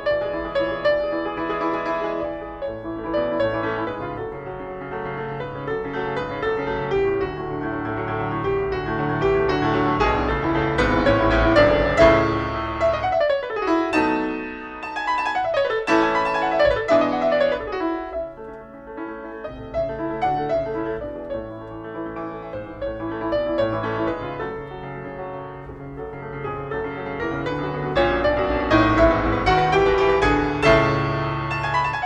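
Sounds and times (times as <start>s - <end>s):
classical piano music: 0.0s - 32.0s.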